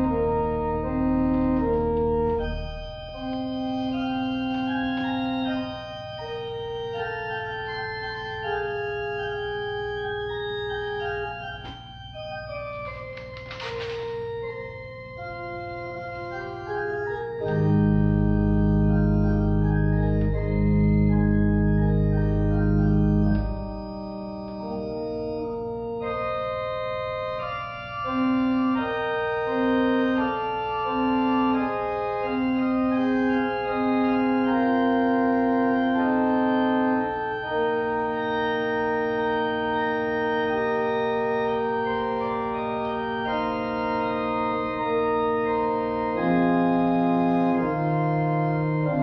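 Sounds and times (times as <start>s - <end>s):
church organ chords: 0.0s - 49.0s
deep organ pedal bass notes: 0.0s - 49.0s
organ melody line: 0.0s - 49.0s.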